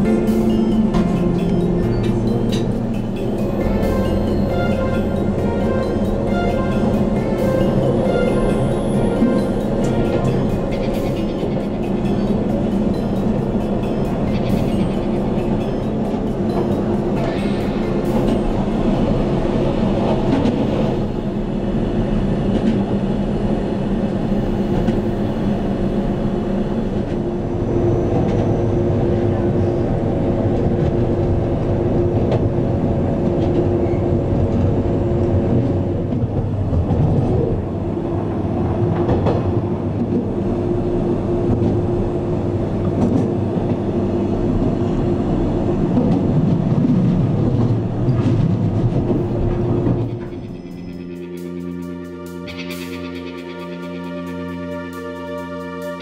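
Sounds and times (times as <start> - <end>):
train rumble with hum: 0.0 - 56.0.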